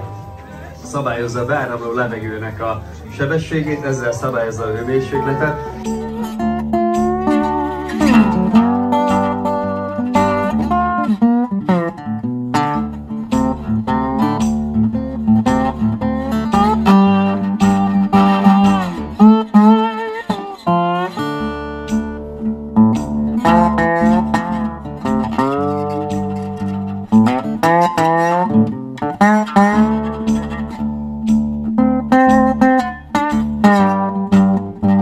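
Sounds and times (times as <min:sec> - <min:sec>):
instrumental guitar music: 0:00.0 - 0:35.0.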